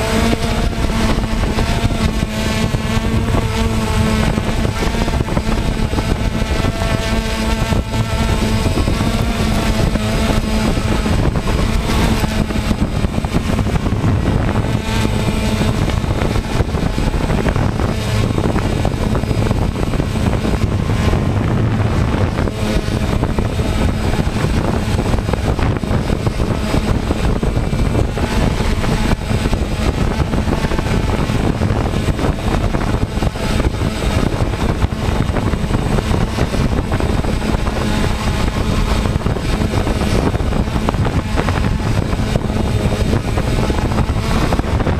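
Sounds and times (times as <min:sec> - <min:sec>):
drone propellers buzzing: 0:00.0 - 0:44.9
wind on microphone: 0:00.0 - 0:44.9.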